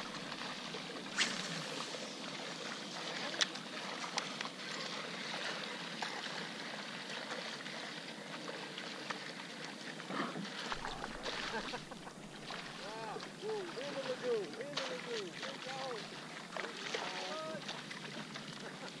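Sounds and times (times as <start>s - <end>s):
water lapping along kayak hull: 0.0s - 19.0s.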